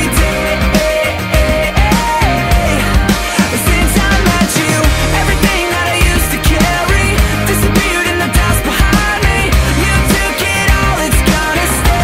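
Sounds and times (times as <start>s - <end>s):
pop-rock music: 0.0s - 12.0s.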